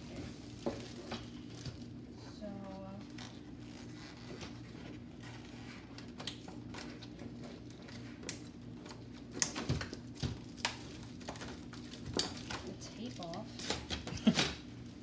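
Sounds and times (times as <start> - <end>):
cardboard and plastic rustling: 0.0 - 15.0
steady low hum: 0.0 - 15.0.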